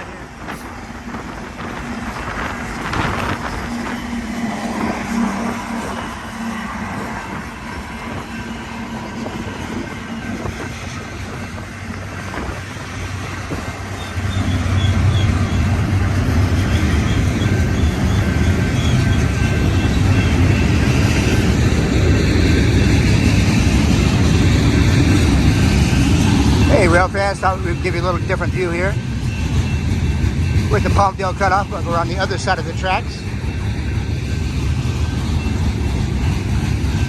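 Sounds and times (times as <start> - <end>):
diesel locomotive engine rumble: 0.0 - 37.0.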